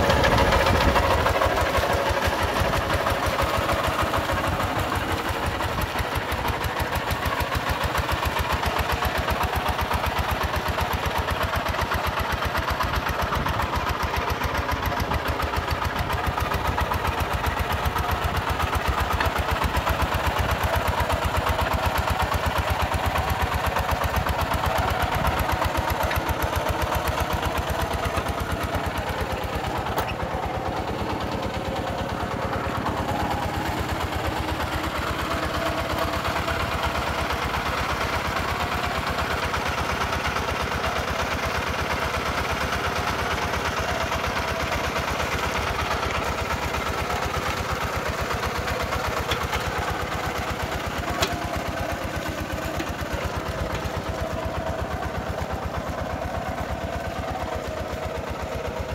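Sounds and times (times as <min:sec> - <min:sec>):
diesel engine chugging: 0:00.0 - 0:58.9.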